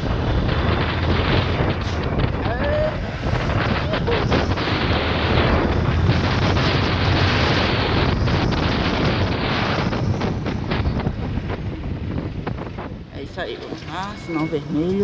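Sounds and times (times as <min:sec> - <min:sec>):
motorcycle engine rumble: 0:00.0 - 0:13.8
wind rushing over microphone: 0:00.0 - 0:15.0.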